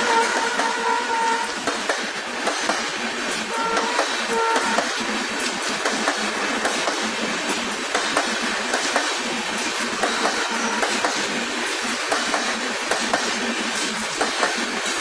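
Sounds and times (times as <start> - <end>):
passenger train rumbling: 0.0 - 15.0
wheels clicking over rail joints: 0.0 - 15.0.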